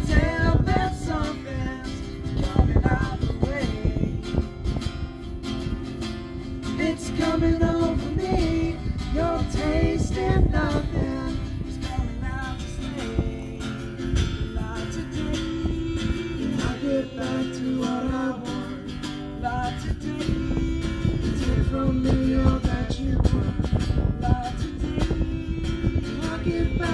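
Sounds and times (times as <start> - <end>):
men singing: 0.0 - 4.3, 6.6 - 26.9
acoustic guitar strumming: 0.0 - 26.9.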